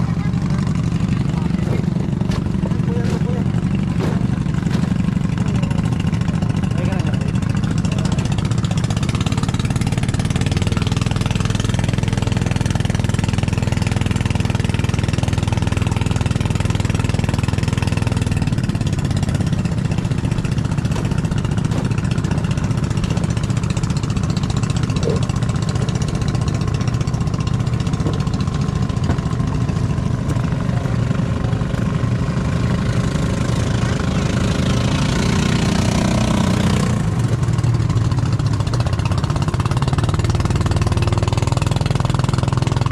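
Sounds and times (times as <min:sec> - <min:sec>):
boat engine running: 0:00.0 - 0:42.9
second higher engine: 0:00.0 - 0:42.9.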